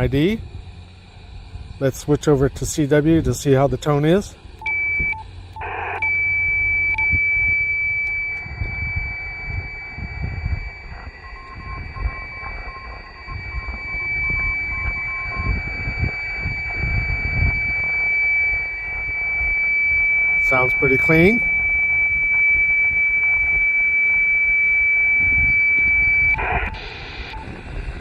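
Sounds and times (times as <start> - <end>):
steady high radio tone: 0.0 - 0.5, 1.2 - 28.0
low rumble: 0.0 - 28.0.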